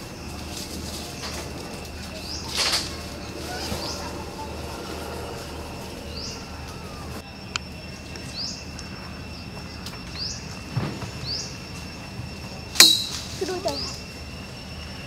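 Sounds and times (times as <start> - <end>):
bird chirping: 0.0 - 14.1
high insect drone: 0.0 - 15.0.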